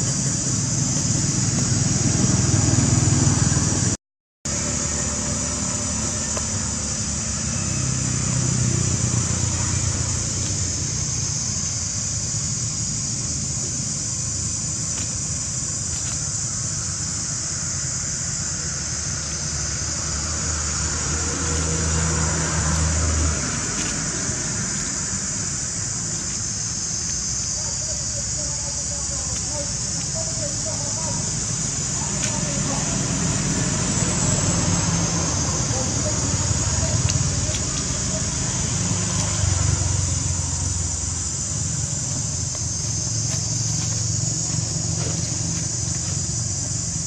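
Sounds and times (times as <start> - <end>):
constant high hiss: 0.0 - 47.0
low engine-like hum: 0.0 - 47.0.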